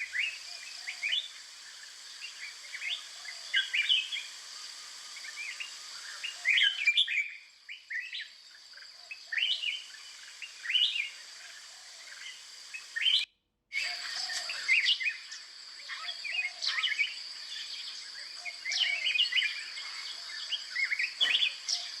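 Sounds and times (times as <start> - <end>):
small birds chirping: 0.0 - 22.0
steady high-pitched hiss: 0.0 - 22.0.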